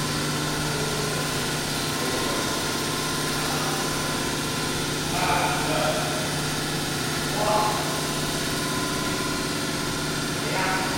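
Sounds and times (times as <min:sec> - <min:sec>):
rectifier electrical hum: 0:00.0 - 0:10.9.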